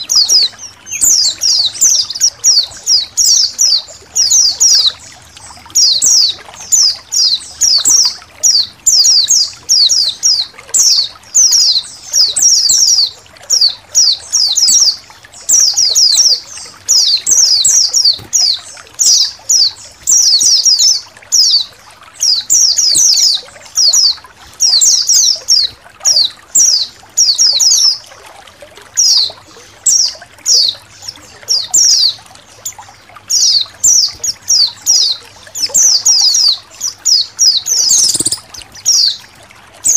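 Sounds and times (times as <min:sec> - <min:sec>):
small birds chirping: 0:00.0 - 0:39.9
trickling water: 0:00.0 - 0:39.9.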